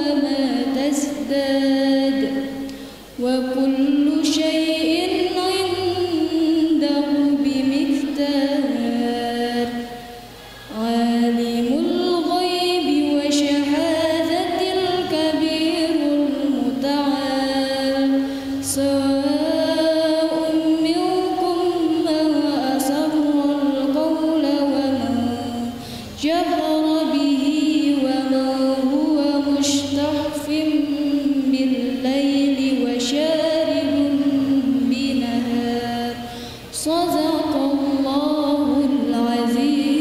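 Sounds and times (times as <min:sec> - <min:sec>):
person chanting recitation: 0:00.0 - 0:02.6, 0:03.2 - 0:10.0, 0:10.6 - 0:40.0.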